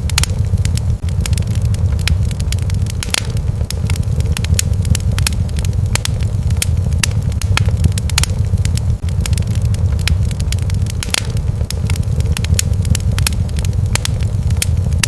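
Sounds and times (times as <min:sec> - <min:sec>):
low rumble of fire: 0:00.0 - 0:15.0
wood fire crackling: 0:00.0 - 0:15.0.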